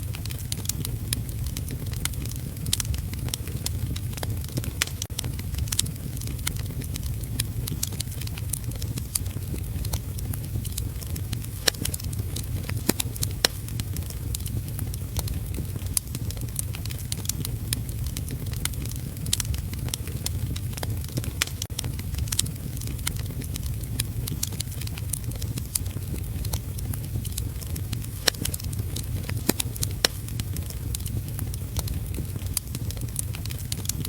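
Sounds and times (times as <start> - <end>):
fireplace crackling: 0.0 - 34.0.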